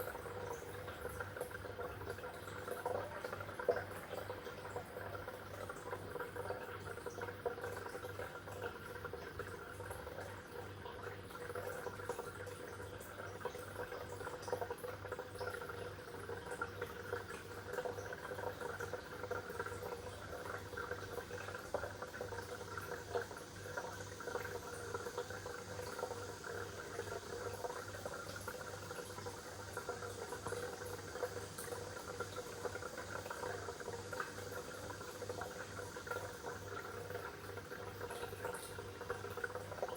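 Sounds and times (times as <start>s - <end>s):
water bubbling in fish tank: 0.0s - 39.9s.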